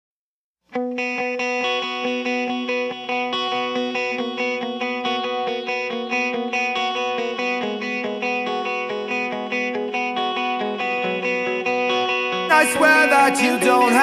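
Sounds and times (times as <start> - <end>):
guitar picking notes: 0.7 - 14.0.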